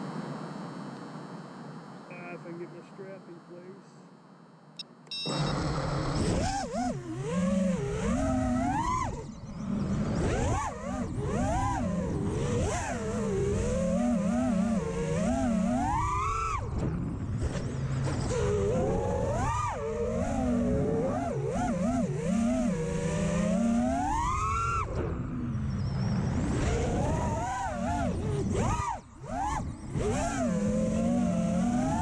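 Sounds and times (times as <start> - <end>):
drone motors and propellers whining: 5.1 - 32.0.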